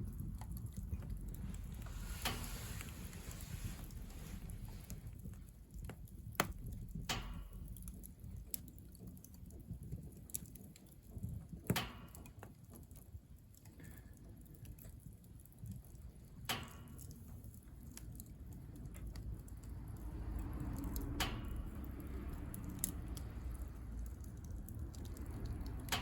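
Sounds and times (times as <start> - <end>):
firewood crackling and popping: 0.0 - 26.0
low rumble of fire: 0.0 - 26.0.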